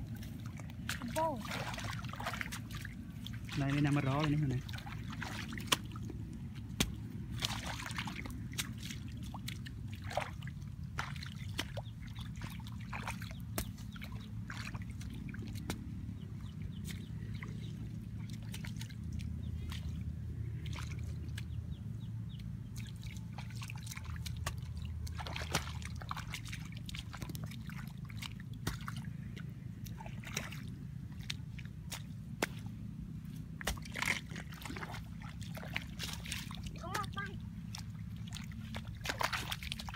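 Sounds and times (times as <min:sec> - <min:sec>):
hoe scraping in wet mud: 0:00.0 - 0:21.6, 0:22.8 - 0:39.9
splashes and knocks: 0:00.0 - 0:21.6, 0:22.7 - 0:39.9
low steady rumble: 0:00.0 - 0:39.9
water sloshing and trickling: 0:00.0 - 0:39.9.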